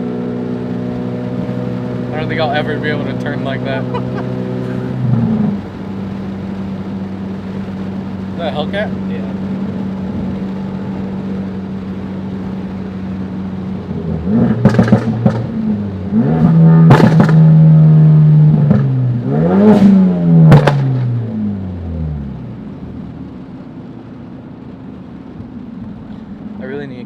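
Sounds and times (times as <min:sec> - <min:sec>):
car engine revving: 0:00.0 - 0:27.0
exhaust cracks: 0:00.0 - 0:27.0.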